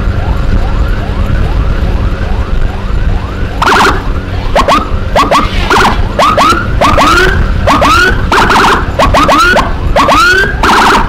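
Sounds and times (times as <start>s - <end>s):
electronic siren yelping: 0.0s - 11.0s
siren whoops and blasts: 0.0s - 11.0s
wind and road noise: 0.0s - 11.0s.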